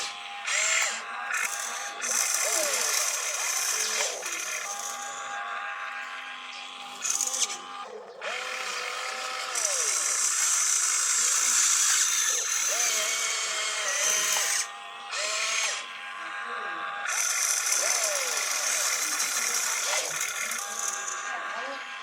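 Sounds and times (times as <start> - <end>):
small electric motors whining: 0.0 - 22.0.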